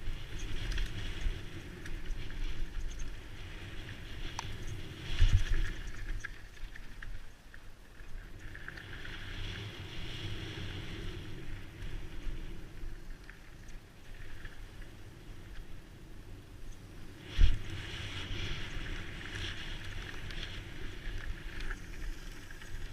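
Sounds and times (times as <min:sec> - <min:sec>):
wind on microphone: 0:00.0 - 0:07.3, 0:08.3 - 0:22.9.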